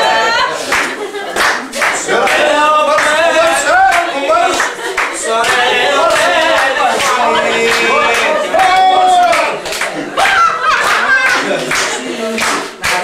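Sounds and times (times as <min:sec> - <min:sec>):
voices singing unaccompanied: 0:00.0 - 0:00.7, 0:01.8 - 0:13.0
hand claps: 0:00.6 - 0:03.2, 0:03.9 - 0:13.0.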